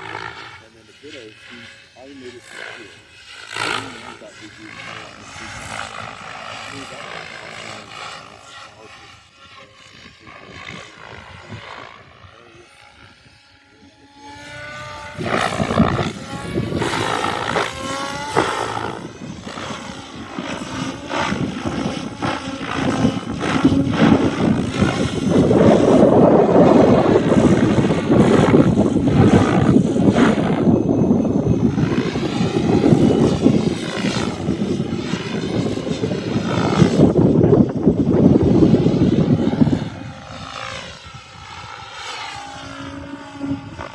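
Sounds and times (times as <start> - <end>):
model helicopter rotor whine: 0.0 - 43.9.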